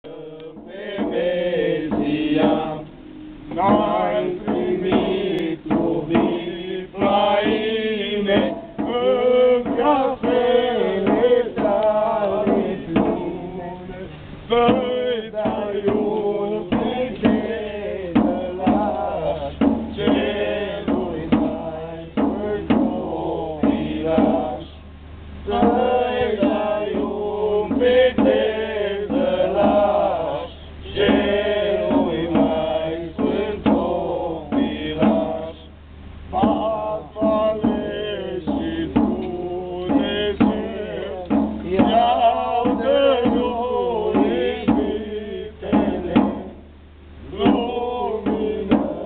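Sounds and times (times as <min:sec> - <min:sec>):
men chanting together: 0:00.0 - 0:02.9, 0:03.5 - 0:49.0
steel barrel drum struck: 0:00.4 - 0:13.4, 0:14.6 - 0:24.8, 0:25.5 - 0:35.7, 0:36.3 - 0:45.0, 0:45.6 - 0:46.7.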